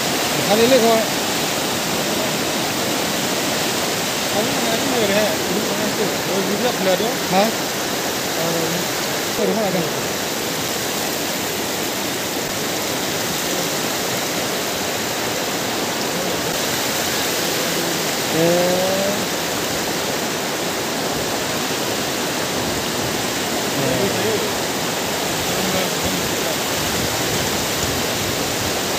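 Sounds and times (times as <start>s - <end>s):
floodwater rushing: 0.0s - 28.9s.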